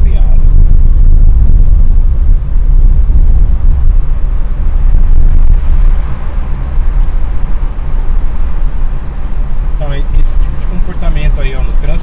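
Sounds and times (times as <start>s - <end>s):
road and wind noise inside car: 0.0s - 12.0s.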